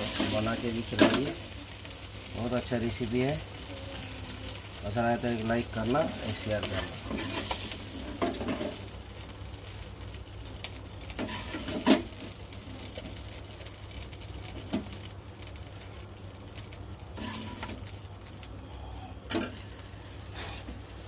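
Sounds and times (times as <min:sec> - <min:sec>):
chicken sizzling in pan: 0:00.0 - 0:21.0.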